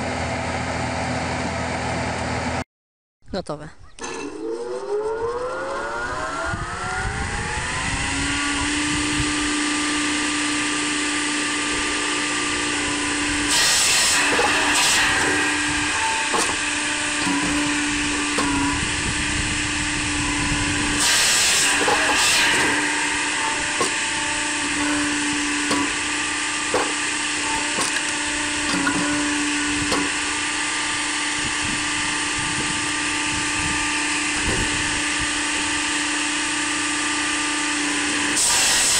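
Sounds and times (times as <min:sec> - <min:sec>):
firewood processor humming: 0:00.0 - 0:02.6, 0:04.0 - 0:38.9
saw cutting through log: 0:04.3 - 0:38.9.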